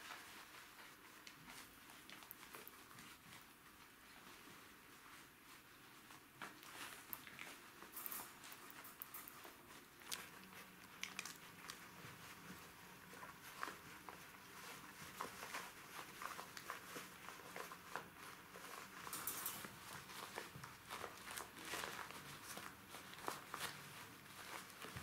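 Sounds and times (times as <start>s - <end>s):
puppies scuffling with paws and claws: 0.0s - 25.0s.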